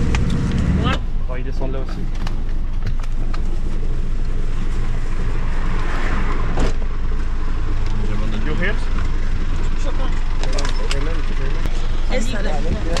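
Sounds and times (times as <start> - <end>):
minibus engine running: 0.0 - 13.0.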